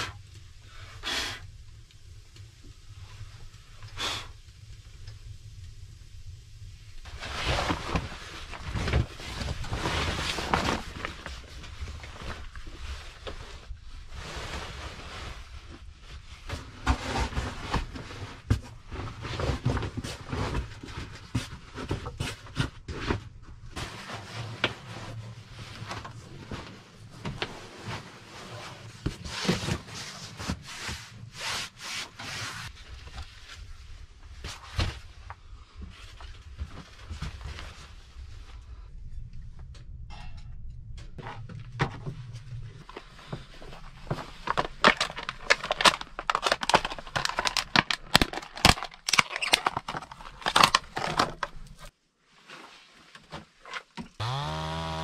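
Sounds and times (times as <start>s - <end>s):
rustling of bags and fabric: 7.0s - 38.9s, 41.6s - 54.6s.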